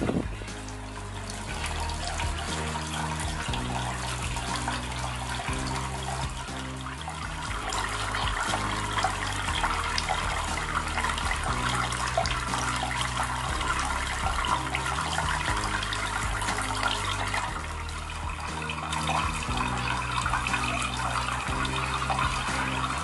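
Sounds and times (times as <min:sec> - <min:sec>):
water splashing down a fountain: 0:00.0 - 0:23.0.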